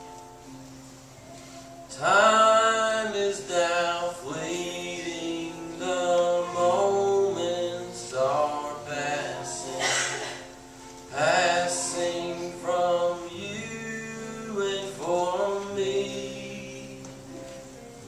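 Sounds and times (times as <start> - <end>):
young man singing a hymn: 1.5 - 17.9.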